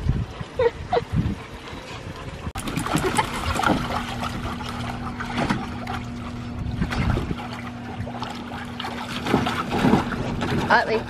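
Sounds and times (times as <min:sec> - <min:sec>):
puppies splashing: 0:00.2 - 0:11.0.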